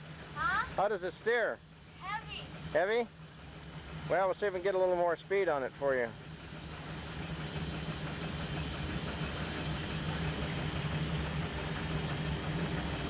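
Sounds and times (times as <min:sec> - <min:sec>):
steam engine running: 0:00.0 - 0:13.0.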